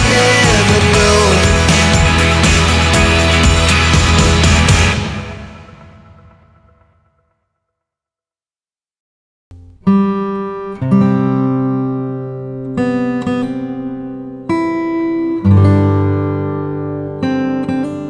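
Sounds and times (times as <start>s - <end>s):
acoustic guitar plucked chords: 0.0s - 6.9s, 9.5s - 18.0s.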